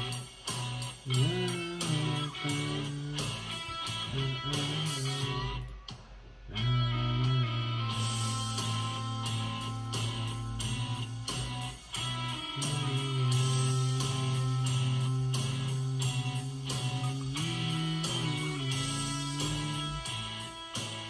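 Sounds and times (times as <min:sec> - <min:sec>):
guitar music with bass and beat: 0:00.0 - 0:21.0.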